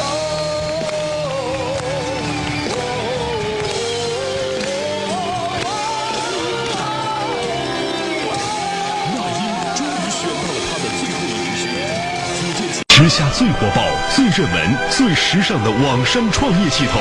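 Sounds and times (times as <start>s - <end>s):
rock band with guitar: 0.0s - 15.0s.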